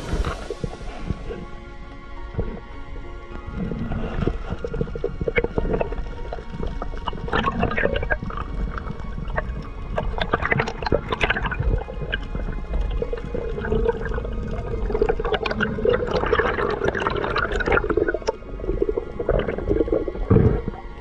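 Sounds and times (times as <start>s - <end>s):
sharp clicks and crackles: 0.0s - 21.0s
underwater rushing bubbling water: 0.0s - 21.0s.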